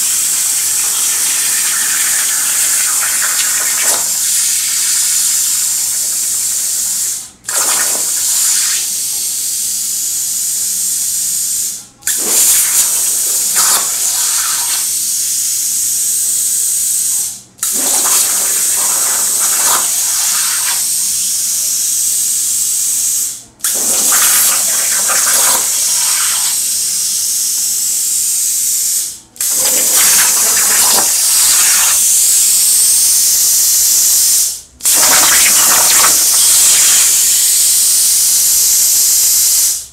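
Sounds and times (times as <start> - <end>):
plasma cutter arc hissing: 0.0 - 39.9.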